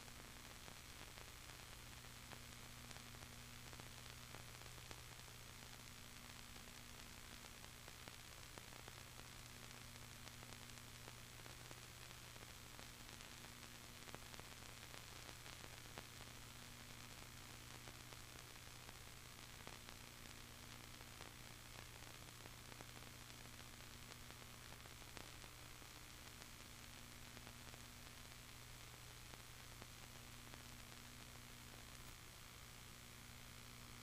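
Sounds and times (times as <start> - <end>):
faint steady hiss: 0.0 - 34.0
low electrical hum: 0.0 - 34.0.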